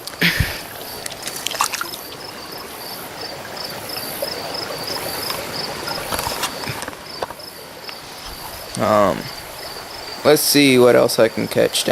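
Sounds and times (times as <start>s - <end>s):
creek water rushing: 0.0s - 11.9s
insects chirping in pulses: 0.0s - 11.9s.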